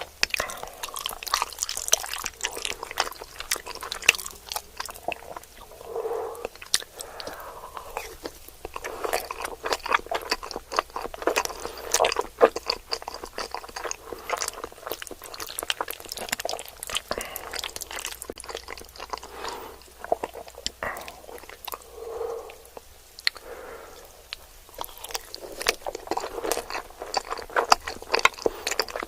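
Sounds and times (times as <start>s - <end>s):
crisp food crunching: 0.0s - 5.8s, 6.4s - 21.9s, 22.5s - 29.0s.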